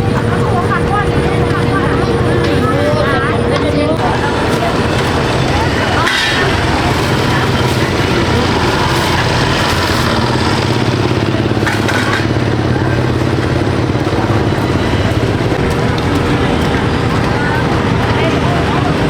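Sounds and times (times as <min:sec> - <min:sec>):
coarse broadband noise: 0:00.0 - 0:19.0
small engine running steadily: 0:00.0 - 0:19.0.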